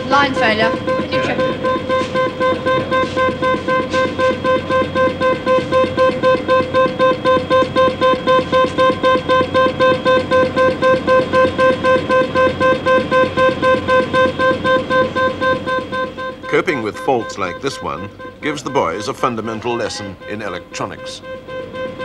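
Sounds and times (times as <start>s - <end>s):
alarm tone beeping: 0.0s - 22.0s.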